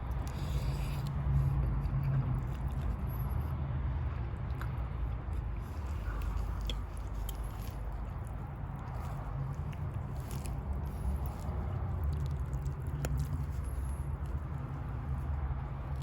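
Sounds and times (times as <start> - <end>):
person chewing food: 0.0 - 3.4, 4.0 - 16.0
low steady rumble: 0.0 - 16.0.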